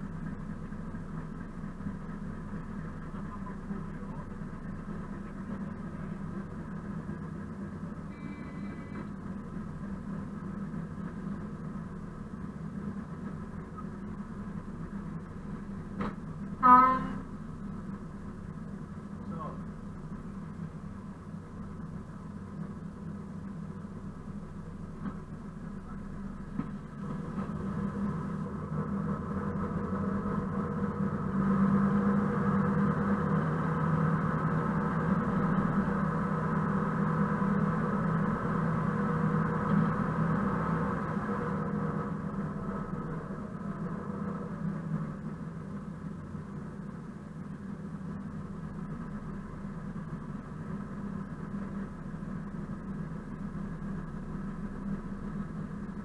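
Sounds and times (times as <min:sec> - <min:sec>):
locomotive diesel engine running: 0:00.0 - 0:56.0
train running noise: 0:00.0 - 0:56.0.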